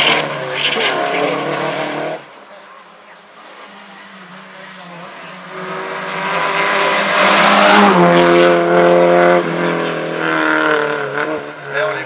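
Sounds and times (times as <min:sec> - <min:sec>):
rally car engine at high revs: 0:00.0 - 0:02.3, 0:03.5 - 0:12.0.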